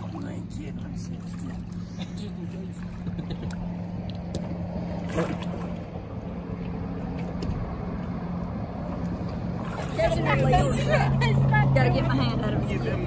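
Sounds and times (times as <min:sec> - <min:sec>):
small water splashes: 0:00.0 - 0:11.8
boat motor idling: 0:00.0 - 0:13.0.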